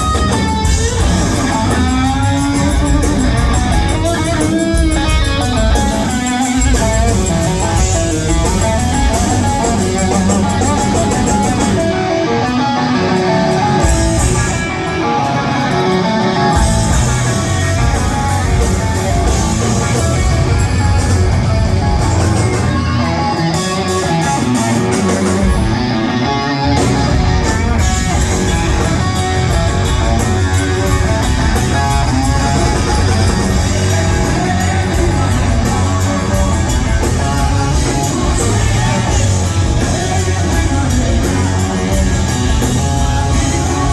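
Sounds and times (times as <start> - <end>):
bass guitar: 0.0 - 43.9
drums: 0.0 - 43.9
electric guitar: 0.0 - 43.9.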